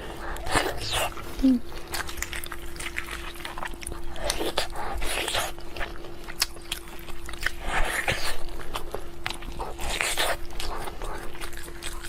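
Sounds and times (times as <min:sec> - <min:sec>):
faint steady hum: 0:00.0 - 0:12.0
wet chewing and smacking: 0:00.0 - 0:12.0.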